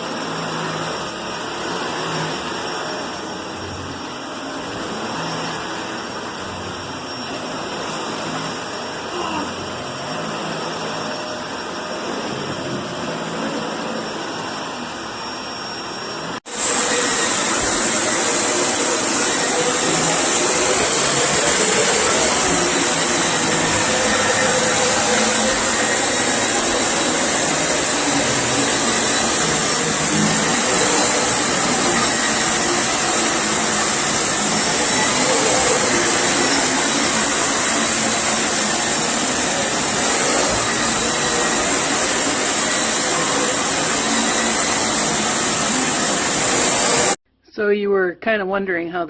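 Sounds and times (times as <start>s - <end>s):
steady high whine: 0.0s - 47.2s
vacuum cleaner running: 0.0s - 47.2s.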